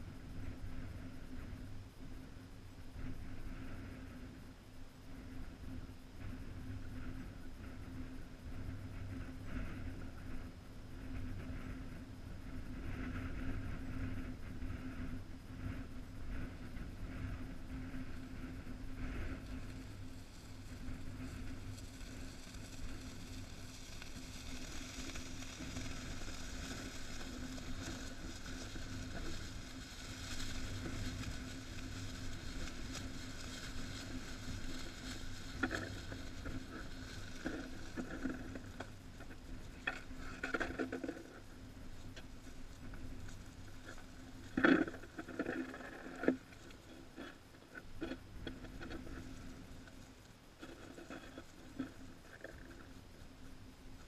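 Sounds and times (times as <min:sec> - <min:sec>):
steady low rumble: 0:00.0 - 0:54.0
foil kite rustling and crunching: 0:08.5 - 0:54.0.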